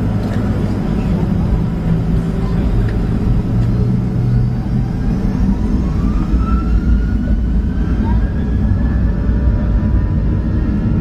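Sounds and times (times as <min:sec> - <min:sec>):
jet engines heard from cabin: 0:00.0 - 0:11.0.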